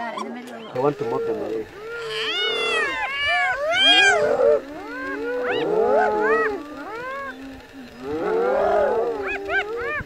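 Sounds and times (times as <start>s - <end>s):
hyenas calling: 0.0s - 10.0s.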